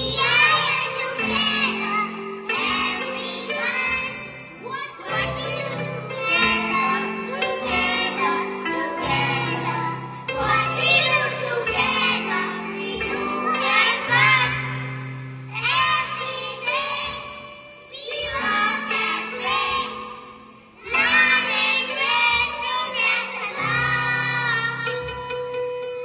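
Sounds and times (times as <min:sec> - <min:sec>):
children singing together: 0:00.0 - 0:25.4.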